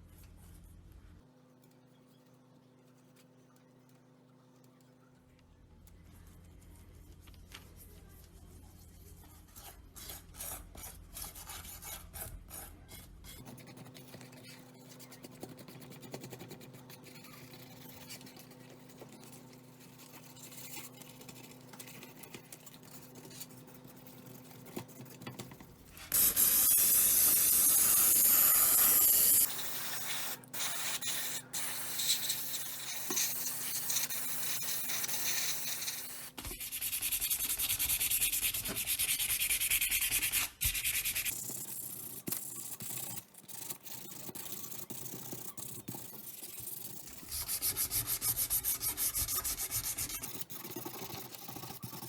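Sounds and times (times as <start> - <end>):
sanding on a model part: 8.7 - 25.2, 25.9 - 52.0.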